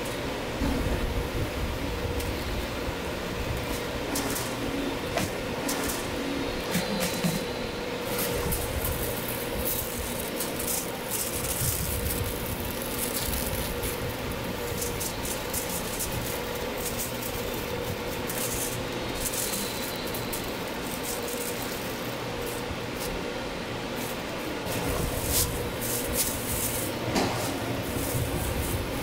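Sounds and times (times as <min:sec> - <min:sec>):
steady background hum: 0:00.0 - 0:29.0
aluminium foil crinkling: 0:03.4 - 0:29.0.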